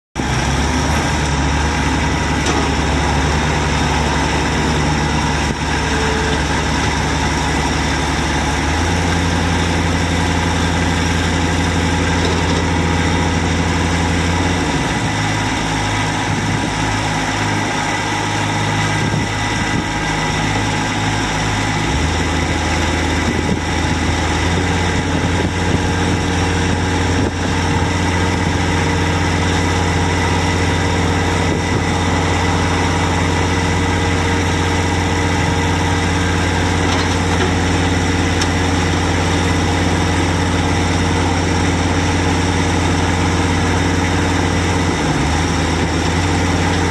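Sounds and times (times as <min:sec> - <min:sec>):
tractor diesel engine running: 0:00.2 - 0:46.9.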